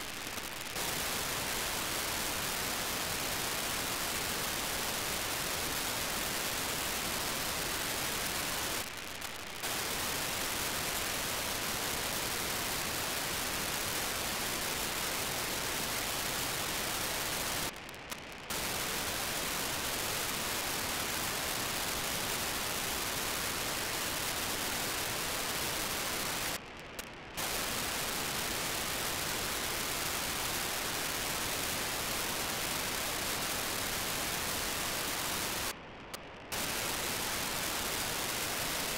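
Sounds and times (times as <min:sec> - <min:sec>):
radio receiver hiss: 0:00.0 - 0:38.9.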